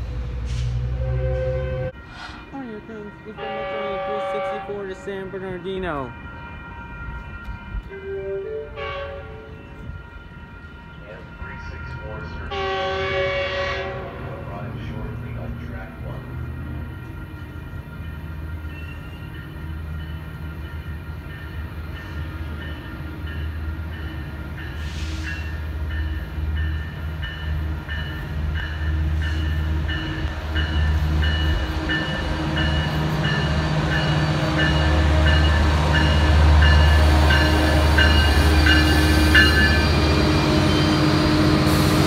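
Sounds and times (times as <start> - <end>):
diesel locomotive passing: 0.0 - 42.0.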